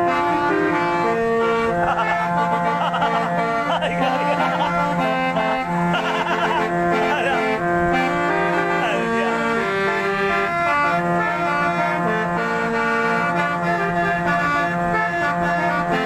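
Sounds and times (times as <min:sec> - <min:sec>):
multi-tone musical car horn: 0:00.0 - 0:16.0.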